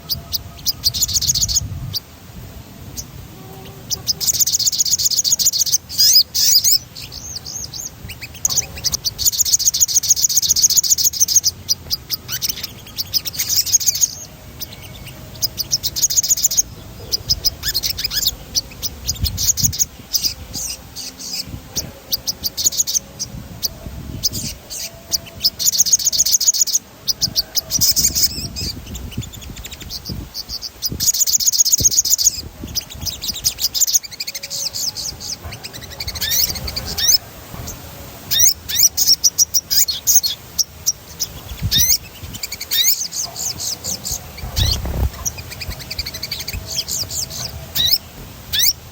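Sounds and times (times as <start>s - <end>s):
bird singing high chirping runs: 0.0s - 2.2s, 2.8s - 48.9s.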